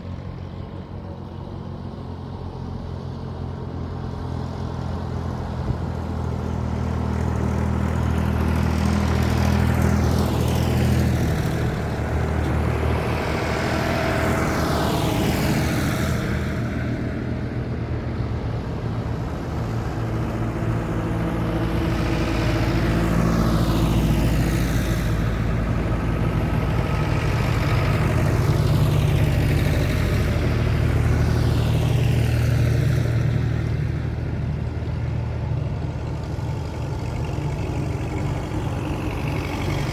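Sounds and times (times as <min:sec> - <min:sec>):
tractor engines driving past: 0:00.0 - 0:39.9.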